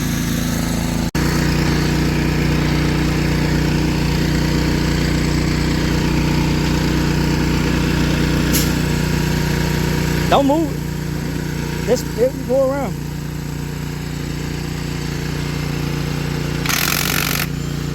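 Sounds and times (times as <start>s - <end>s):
engine running steadily: 0.0s - 17.9s.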